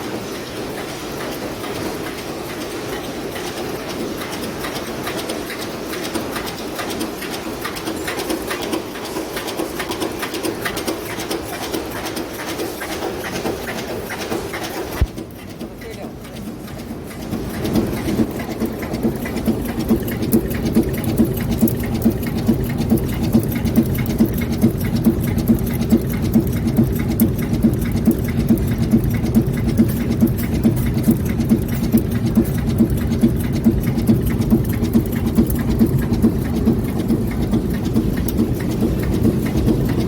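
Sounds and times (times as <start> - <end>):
forging machine hum: 0.0 - 40.0.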